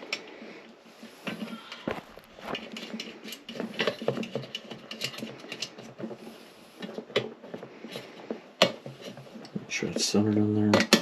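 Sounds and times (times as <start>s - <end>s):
metal parts clicking and rattling: 1.2s - 11.0s.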